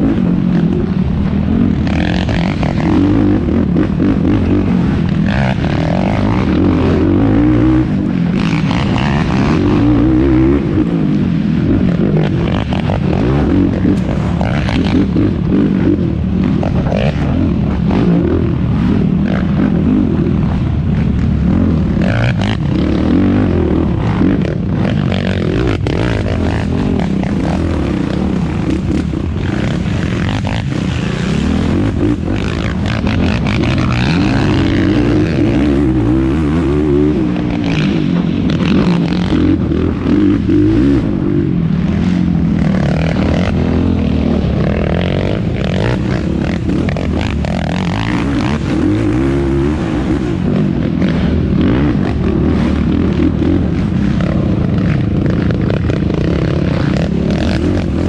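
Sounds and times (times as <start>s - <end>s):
quad engine running hard: 0.0s - 58.0s.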